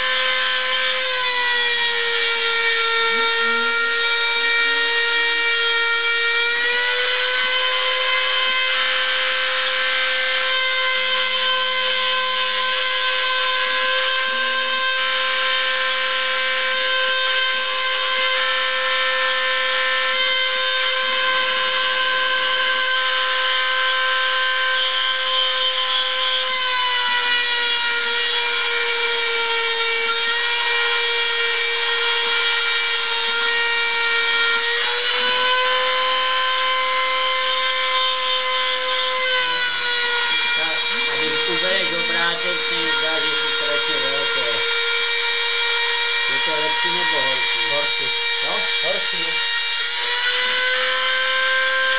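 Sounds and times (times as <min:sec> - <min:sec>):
router spindle whining: 0:00.0 - 0:51.9
stepper motors humming: 0:00.0 - 0:51.9.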